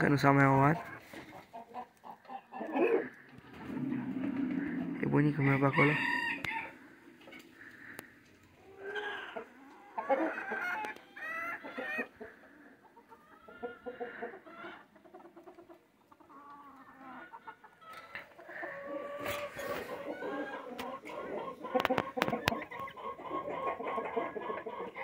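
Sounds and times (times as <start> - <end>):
chickens clucking and calling: 0.0 - 25.0.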